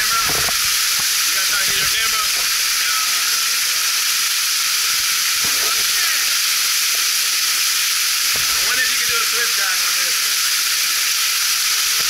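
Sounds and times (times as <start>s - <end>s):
waterfall splashing onto rock: 0.0s - 12.0s.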